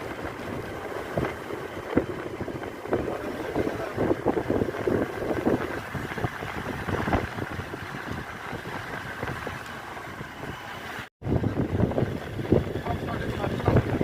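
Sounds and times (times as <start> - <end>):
vehicle rumbling ride noise: 0.0 - 14.0
wind buffeting microphone: 0.0 - 14.0.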